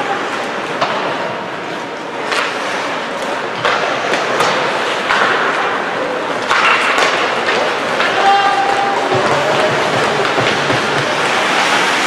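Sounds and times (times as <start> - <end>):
hockey sticks and puck clacking: 0.0 - 1.4, 2.0 - 12.0
arena noise: 0.0 - 12.0
skates scraping ice: 0.0 - 12.0.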